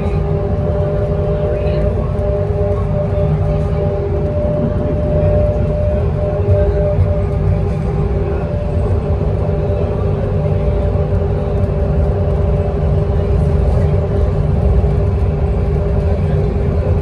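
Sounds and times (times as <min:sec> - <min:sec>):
bus engine and tyre rumble: 0:00.0 - 0:17.0
droning hum: 0:00.0 - 0:17.0.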